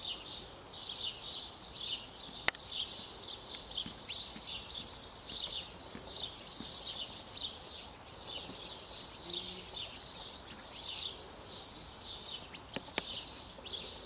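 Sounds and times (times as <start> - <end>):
birds chirping and singing: 0.0 - 14.0.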